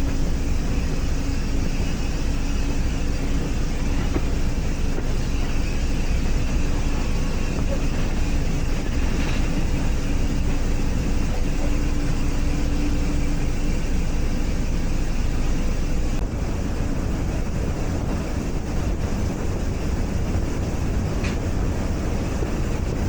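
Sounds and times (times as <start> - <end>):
train carriage rumbling: 0.0 - 23.0.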